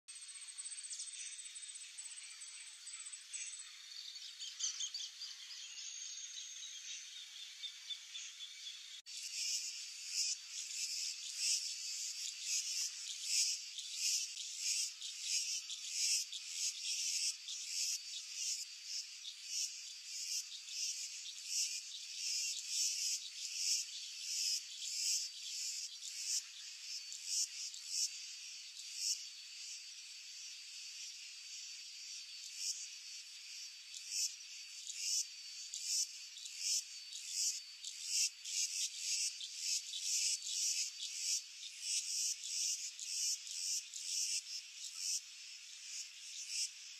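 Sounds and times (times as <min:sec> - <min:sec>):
insects chirping: 0:00.2 - 0:46.9.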